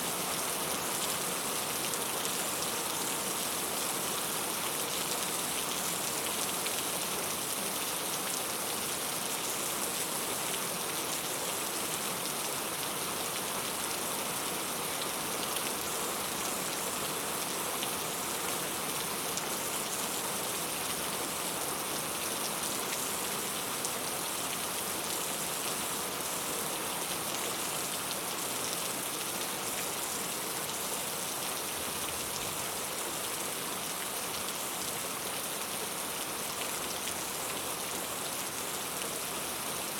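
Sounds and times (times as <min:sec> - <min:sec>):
steady rain on a surface: 0:00.0 - 0:39.9.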